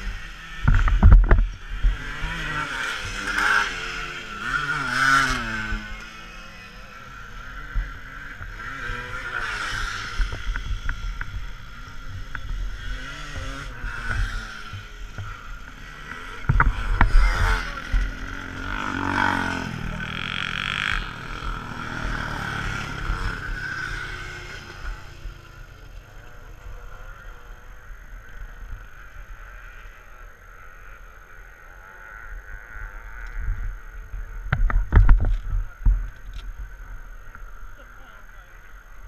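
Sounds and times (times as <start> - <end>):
distant motorcycle engines revving: 0.0 - 39.0.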